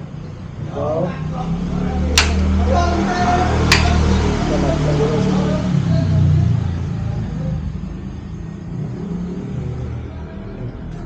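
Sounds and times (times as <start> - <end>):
gas burners rumbling: 0.0 - 11.0.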